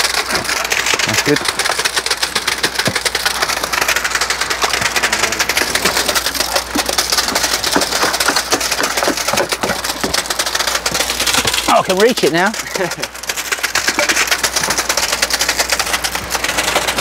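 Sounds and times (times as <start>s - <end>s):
low hum: 0.0s - 17.0s
wet concrete pouring: 0.0s - 17.0s.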